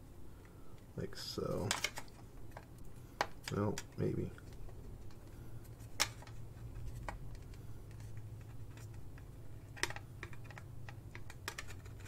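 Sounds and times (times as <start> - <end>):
steady low hum: 0.0 - 12.0
plastic parts clicking: 1.5 - 12.0.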